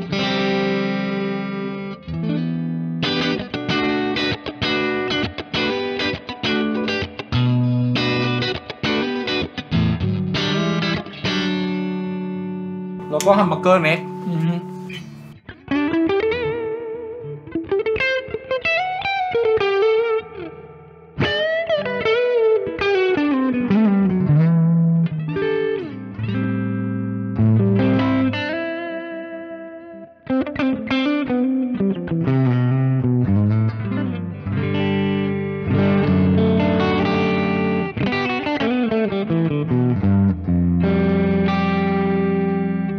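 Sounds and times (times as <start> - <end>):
clean electric guitar: 0.0 - 42.9.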